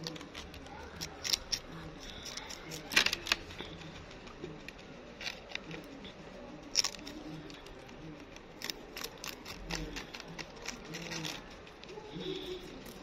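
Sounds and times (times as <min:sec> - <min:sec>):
faint low murmur: 0:00.0 - 0:13.0
hamster crunching food: 0:00.0 - 0:13.0.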